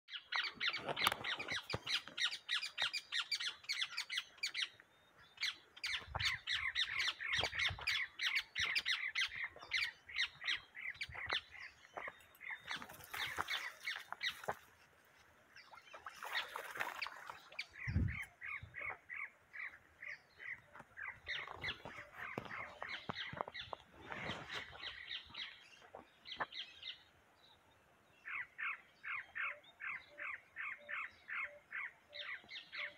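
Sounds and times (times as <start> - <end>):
birds chirping in rapid runs: 0.1 - 32.9.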